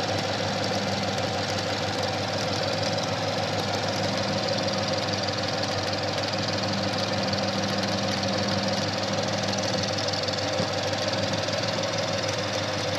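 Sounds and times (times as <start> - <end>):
car engine idling: 0.0 - 12.9
rapid engine ticking: 0.0 - 12.9.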